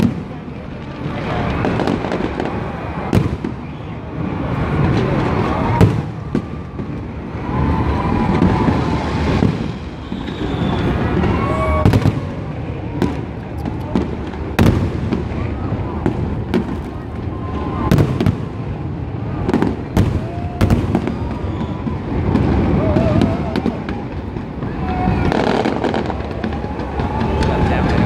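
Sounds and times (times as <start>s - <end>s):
fireworks booming and crackling: 0.0s - 28.0s
sharp firework bangs: 0.0s - 28.0s.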